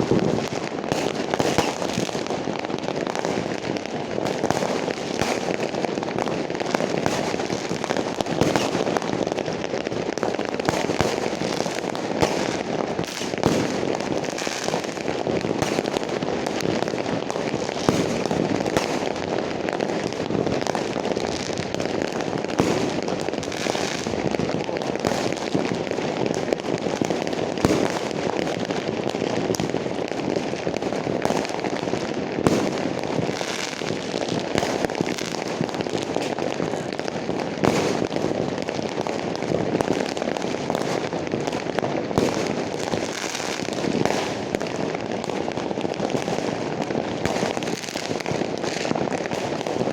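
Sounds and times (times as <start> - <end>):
fireworks crackling: 0.0 - 49.9
loud firework bangs: 0.0 - 49.9.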